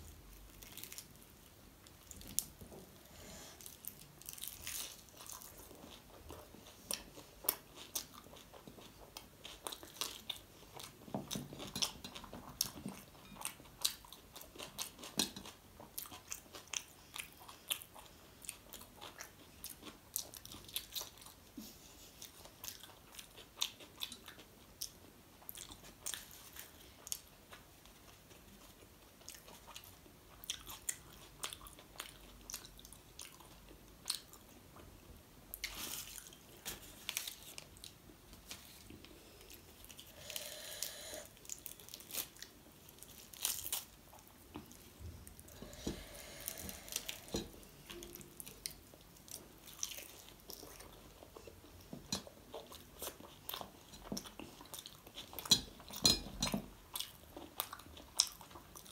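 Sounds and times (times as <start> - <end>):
close chewing and biting: 3.5 - 34.9, 35.5 - 58.9.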